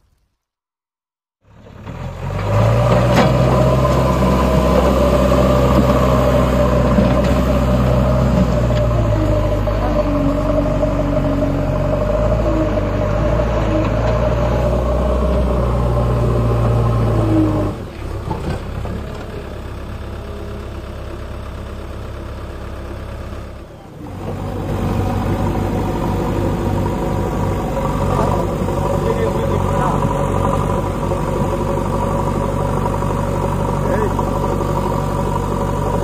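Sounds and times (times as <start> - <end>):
diesel engine running under load: 1.4 - 36.0.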